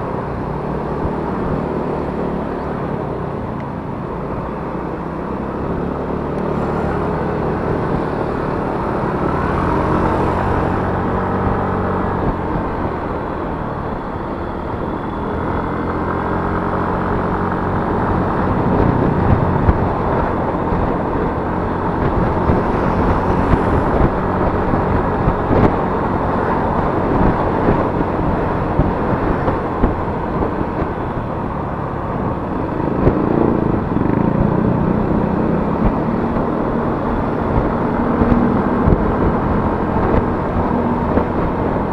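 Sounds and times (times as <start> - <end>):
scooter engine running: 0.0 - 41.9
wind rush on microphone: 0.0 - 41.9.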